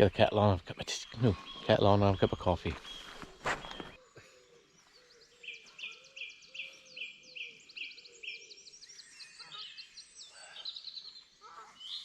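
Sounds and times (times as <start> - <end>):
high downward-sliding bird calls: 1.0 - 12.0.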